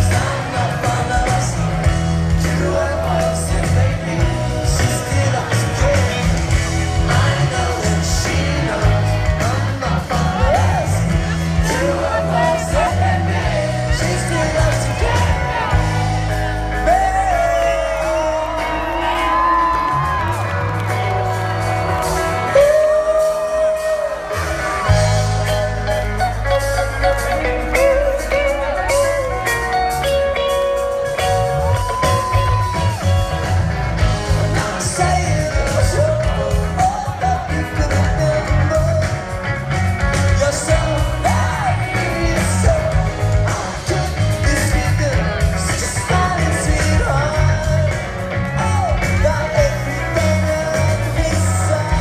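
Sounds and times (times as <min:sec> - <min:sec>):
person singing: 0:00.0 - 0:52.0
rock band playing live: 0:00.0 - 0:52.0.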